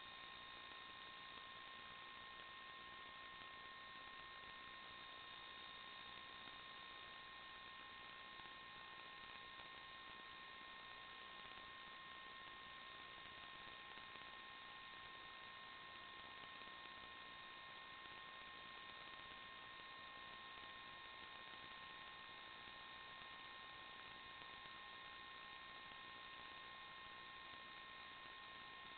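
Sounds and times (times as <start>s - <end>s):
faint electronic hiss: 0.0s - 28.9s
thin whine tones: 0.0s - 28.9s.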